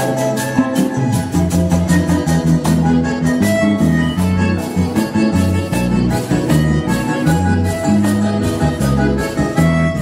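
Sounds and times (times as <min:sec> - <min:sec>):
accordion melody: 0:00.0 - 0:10.0
bass line: 0:00.0 - 0:10.0.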